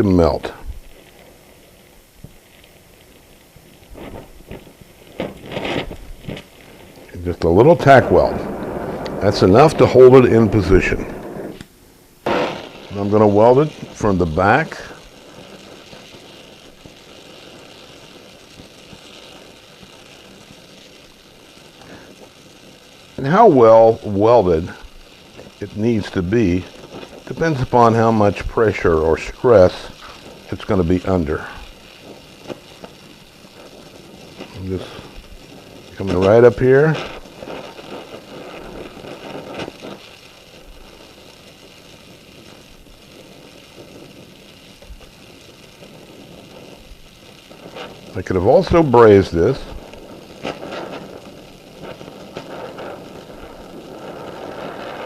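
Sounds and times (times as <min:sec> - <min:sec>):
welding torch flame hissing: 0:00.0 - 0:55.0.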